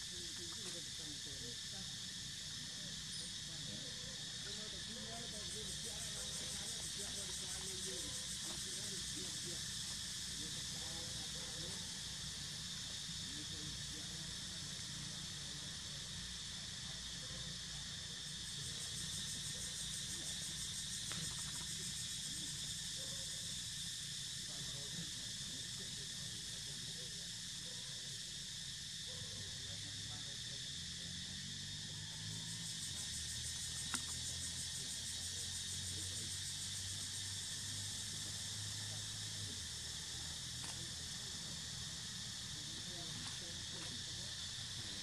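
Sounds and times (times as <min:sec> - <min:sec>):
insects droning in trees: 0:00.0 - 0:45.0.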